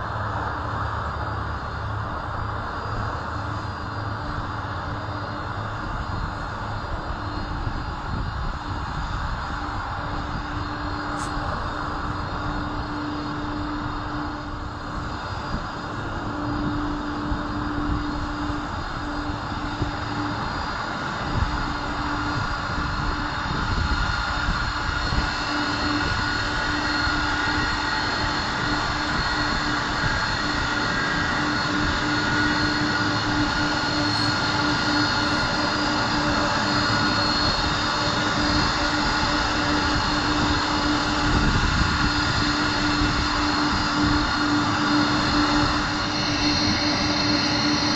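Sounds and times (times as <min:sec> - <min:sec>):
jet engines running at taxi thrust: 0:00.0 - 0:47.9.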